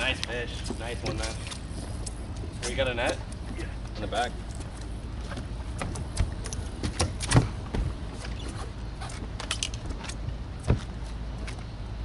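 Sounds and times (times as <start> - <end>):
gear clattering on boat deck: 0.0 - 11.8
steady low rumble: 0.0 - 12.0.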